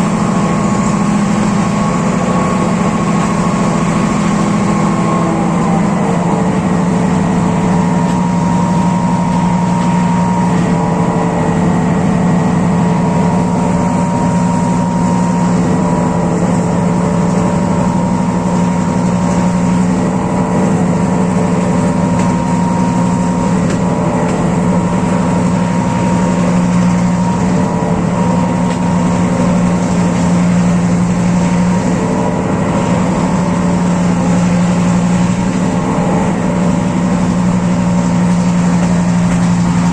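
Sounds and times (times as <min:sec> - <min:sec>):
locomotive diesel engine humming: 0:00.0 - 0:39.9.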